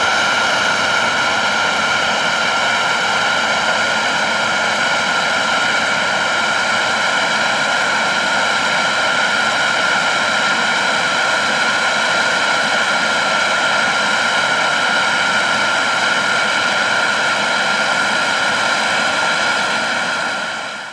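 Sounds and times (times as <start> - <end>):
jet engine roar: 0.0 - 20.9.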